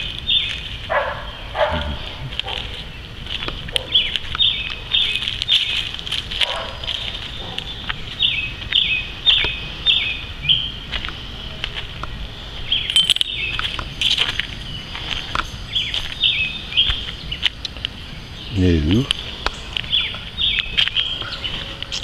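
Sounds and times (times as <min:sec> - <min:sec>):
footsteps crunching on leaves: 0:00.0 - 0:22.0.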